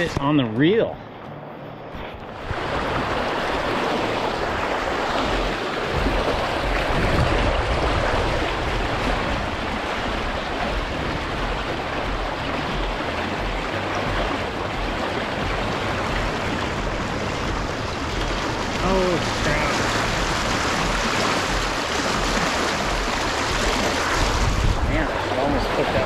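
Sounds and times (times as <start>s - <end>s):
low rumble: 0.4s - 26.0s
river water rushing: 2.2s - 26.0s.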